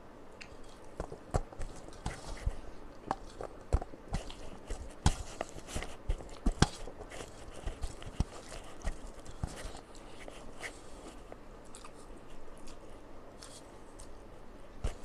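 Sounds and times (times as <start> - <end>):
person chewing food: 0.4 - 15.0.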